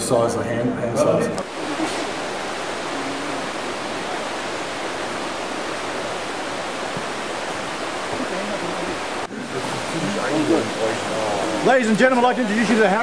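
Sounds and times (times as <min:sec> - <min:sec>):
stream water rushing: 0:01.4 - 0:13.0.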